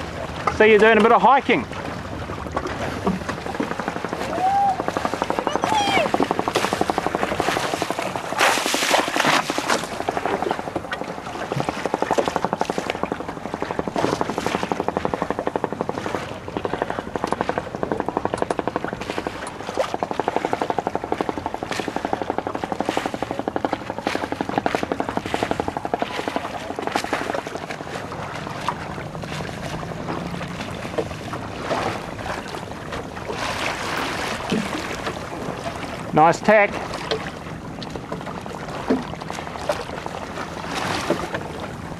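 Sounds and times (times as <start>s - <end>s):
boat motor running: 0.0s - 41.9s.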